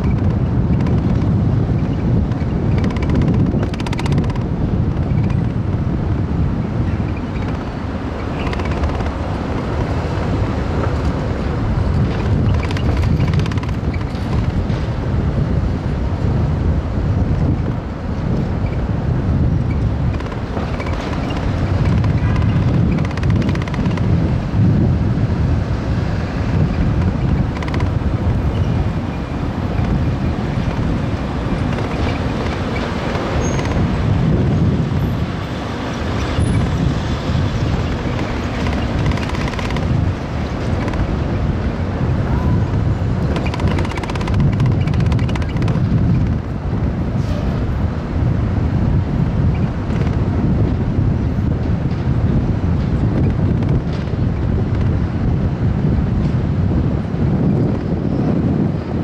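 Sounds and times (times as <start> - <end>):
city street traffic: 0.0 - 59.0
wind buffeting the microphone: 0.0 - 59.0.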